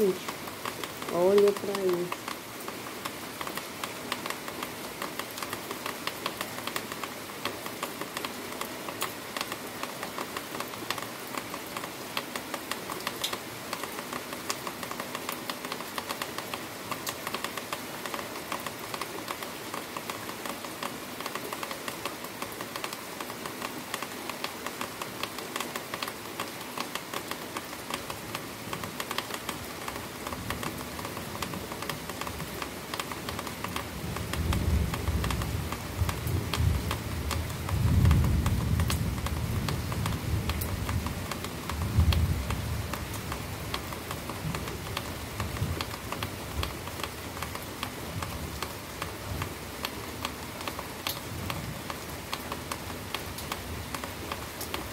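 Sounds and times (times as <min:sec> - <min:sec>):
very heavy rain: 0:00.0 - 0:54.9.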